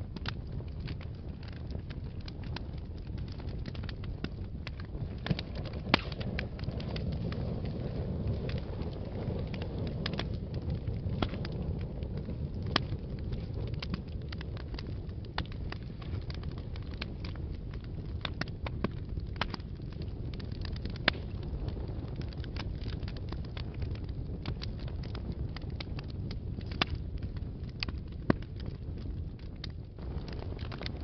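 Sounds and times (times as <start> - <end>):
fire crackles and pops: 0.0 - 31.0
low rumble of flames: 0.0 - 31.0.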